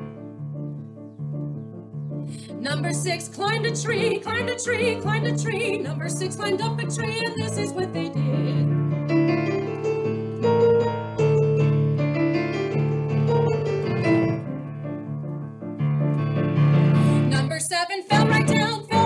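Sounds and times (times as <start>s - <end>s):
digital piano chords: 0.0s - 19.0s.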